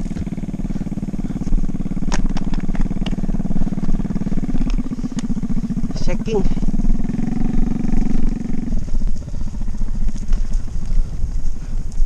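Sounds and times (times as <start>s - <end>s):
bike rumbling over stony road: 0.0s - 12.0s.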